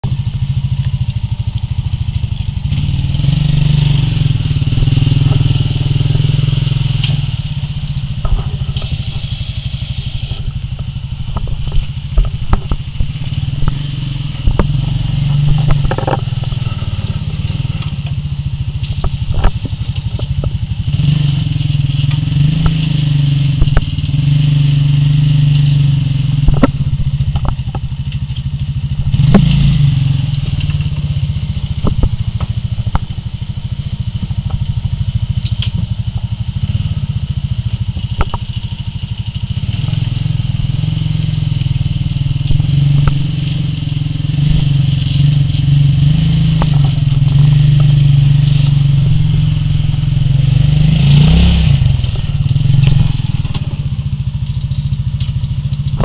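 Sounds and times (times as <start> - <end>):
quad bike engine running: 0.0 - 56.0
clicks and knocks of stones: 4.4 - 9.6, 10.3 - 33.4, 35.3 - 36.2, 37.8 - 56.0.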